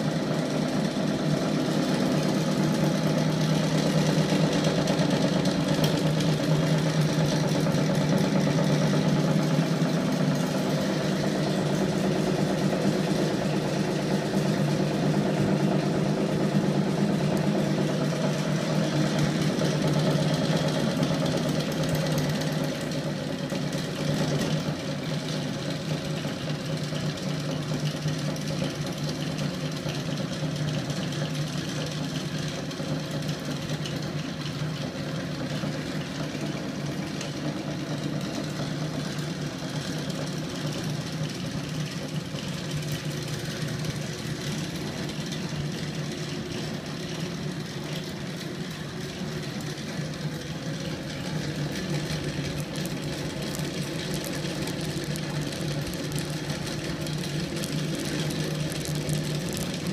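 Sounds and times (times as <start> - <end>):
engine hum with mechanical rattle: 0.0 - 59.9.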